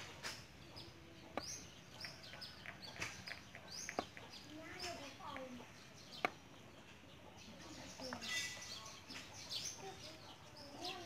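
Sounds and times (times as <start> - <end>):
birds chirping: 0.0 - 11.0
outdoor ambience: 0.0 - 11.0.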